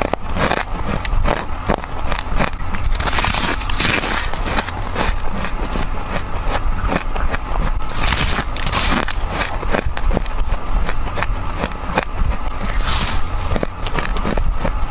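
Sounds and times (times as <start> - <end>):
crunching bites into frost: 0.0 - 14.9
steady low hum: 0.0 - 14.9.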